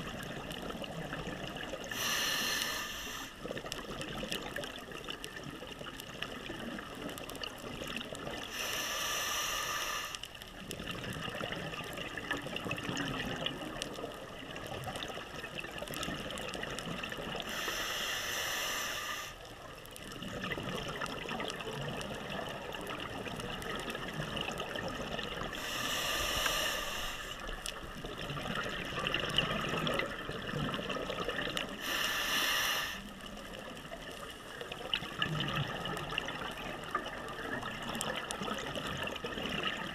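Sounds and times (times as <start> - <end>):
steady crackling hiss: 0.0 - 39.9.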